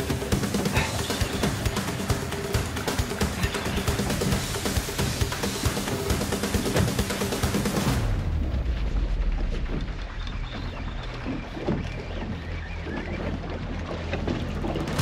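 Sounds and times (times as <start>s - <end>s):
boat engine humming: 0.0s - 15.0s
water noise: 0.0s - 15.0s
wind: 0.0s - 15.0s.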